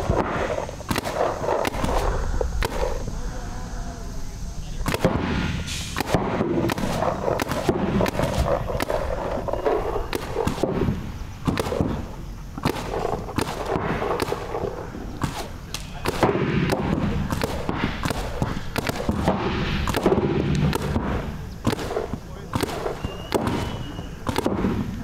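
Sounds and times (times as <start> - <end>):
paintball markers firing: 0.0 - 3.0, 4.8 - 25.0.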